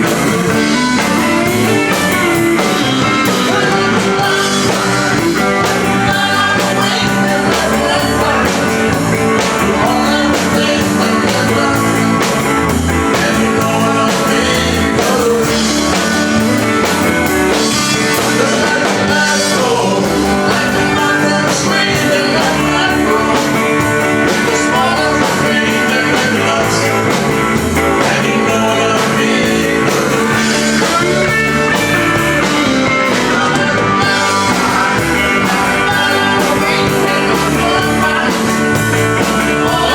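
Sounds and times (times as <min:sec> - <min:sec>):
guitar: 0:00.0 - 0:39.9
live country band playing: 0:00.0 - 0:39.9.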